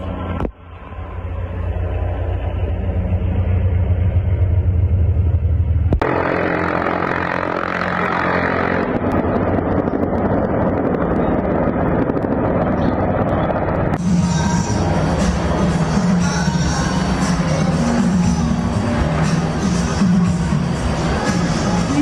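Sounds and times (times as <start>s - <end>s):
helicopter rotor chopping: 0.0s - 22.0s
loud dense rushing noise: 0.0s - 22.0s.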